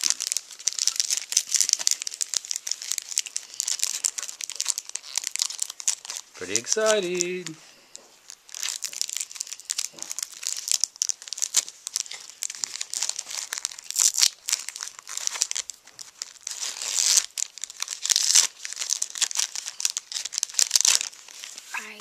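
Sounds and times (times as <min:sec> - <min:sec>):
foil wrapper crinkling and tearing: 0:00.0 - 0:22.0.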